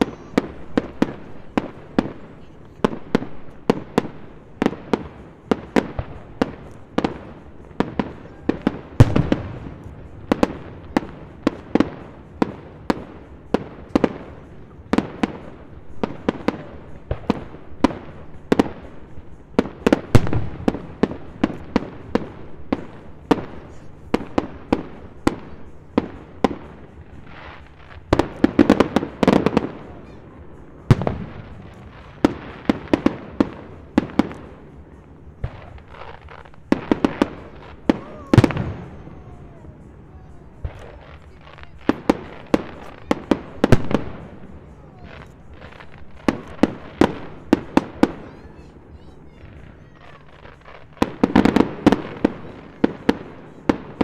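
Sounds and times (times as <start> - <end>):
fireworks bursting: 0.0 - 54.0
heavy firework booms: 0.0 - 54.0.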